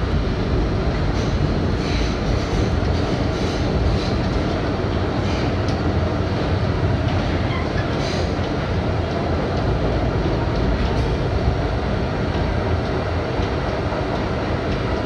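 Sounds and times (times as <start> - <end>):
subway wheels rumbling on rail: 0.0 - 15.0.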